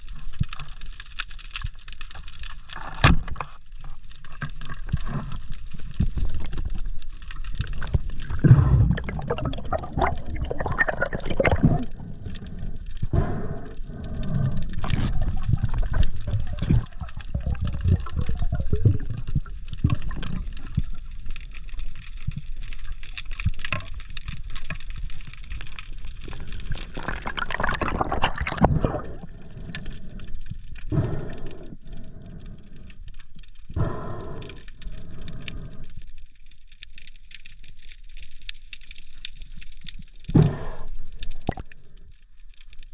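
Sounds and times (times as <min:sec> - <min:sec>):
water sloshing and gurgling: 0:00.0 - 0:42.9.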